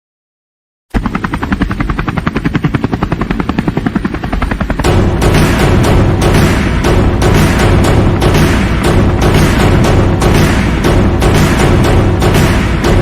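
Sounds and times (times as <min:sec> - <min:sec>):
rapid chopping pulse: 0:00.9 - 0:13.0
music with booming beats: 0:01.0 - 0:13.0.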